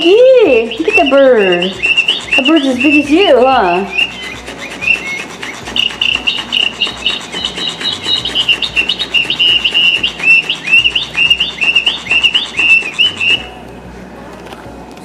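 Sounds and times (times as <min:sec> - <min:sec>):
electronic sparrow chirps: 0:00.0 - 0:13.6
rapid mechanical clicking: 0:00.5 - 0:13.6.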